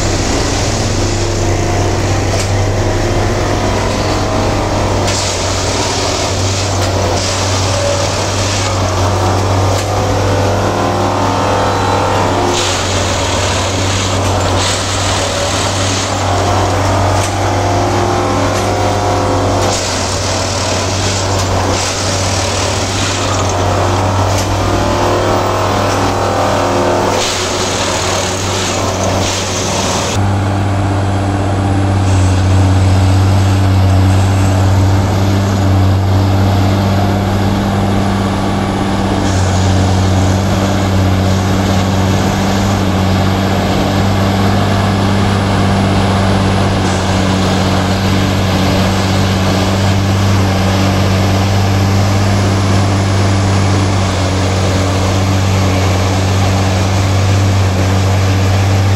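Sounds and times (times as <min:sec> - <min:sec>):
machinery engine humming: 0:00.0 - 0:58.9.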